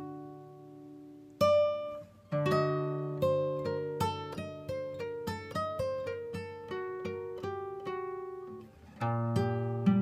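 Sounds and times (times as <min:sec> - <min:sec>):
plucked guitar melody: 0:00.0 - 0:10.0.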